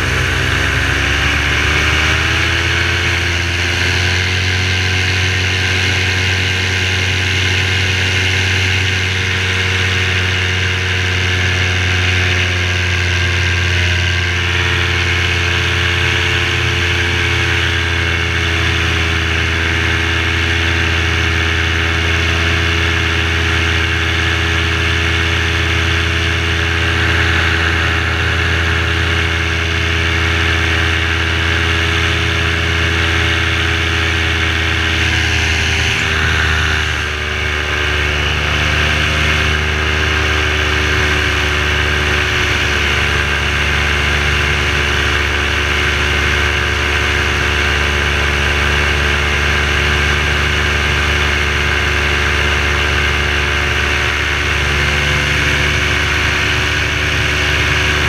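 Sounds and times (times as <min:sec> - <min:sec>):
paramotor engine running: 0:00.0 - 0:58.0.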